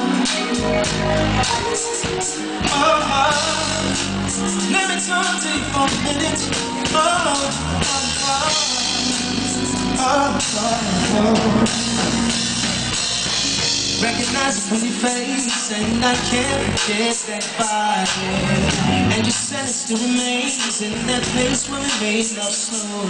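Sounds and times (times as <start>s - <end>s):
male singer vocal runs: 0.0s - 12.6s, 14.0s - 23.0s
live r and b band: 0.0s - 23.0s.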